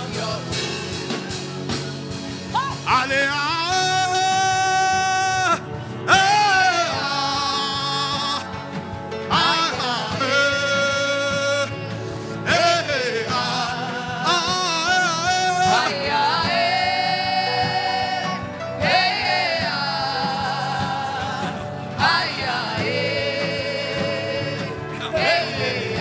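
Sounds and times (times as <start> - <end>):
sustained keyboard accompaniment: 0.0 - 26.0.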